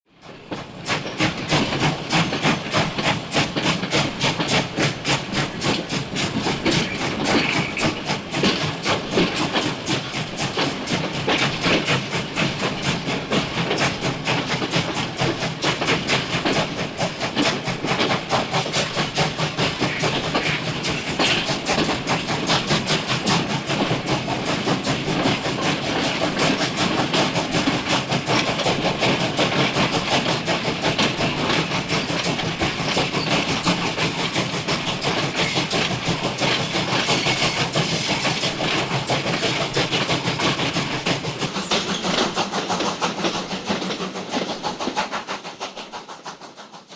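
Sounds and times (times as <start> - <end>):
steam train chuffing: 0.1 - 46.9
rail clatter: 0.2 - 46.9
steam hiss: 0.2 - 46.9.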